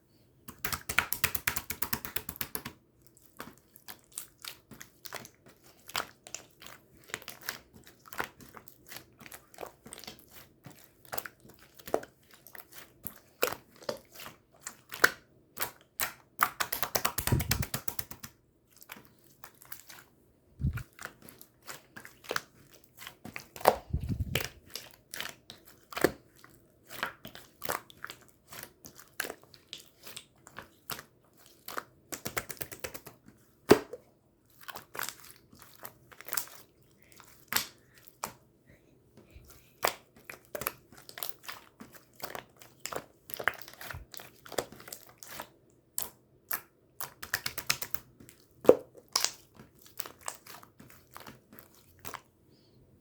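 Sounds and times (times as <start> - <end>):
slime squelching: 0.5 - 52.4.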